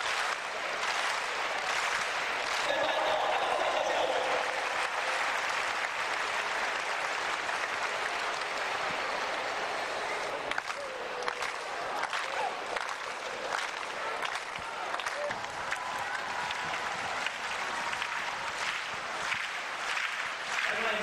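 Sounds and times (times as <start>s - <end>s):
stadium crowd applauding: 0.0s - 21.0s.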